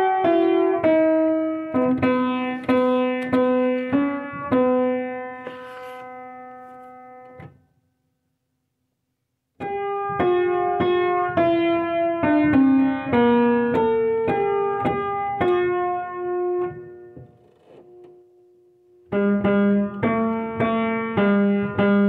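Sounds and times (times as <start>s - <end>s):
piano playing: 0.0s - 7.5s, 9.6s - 17.2s, 18.9s - 22.0s.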